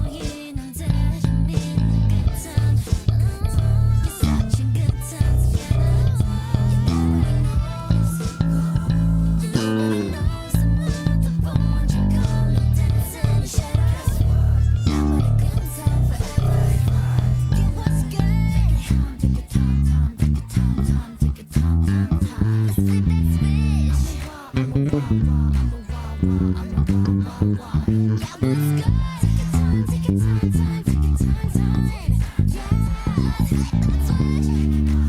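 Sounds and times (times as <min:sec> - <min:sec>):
electric bass playing: 0:00.0 - 0:35.0
pop backing track: 0:00.0 - 0:35.0
sung vocals: 0:00.0 - 0:35.0.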